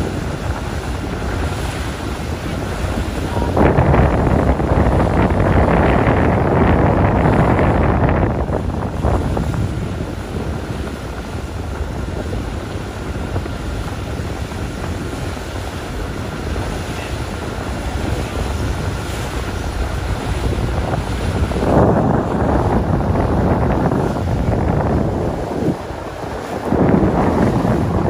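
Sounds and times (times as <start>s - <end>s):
boat rushing through water: 0.0s - 28.0s
wind rumble on microphone: 0.0s - 28.0s.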